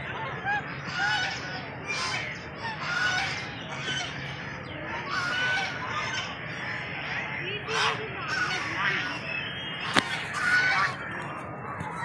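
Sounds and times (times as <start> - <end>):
ducks and geese calling: 0.0 - 12.0.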